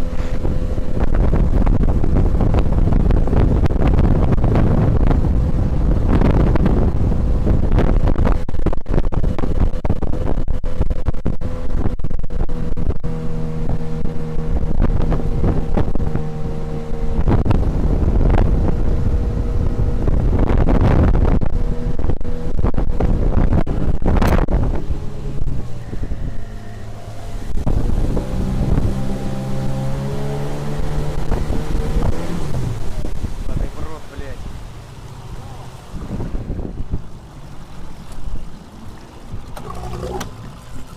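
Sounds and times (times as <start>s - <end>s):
outboard motor drone: 0.0s - 40.9s
wind buffeting microphone: 0.0s - 40.9s.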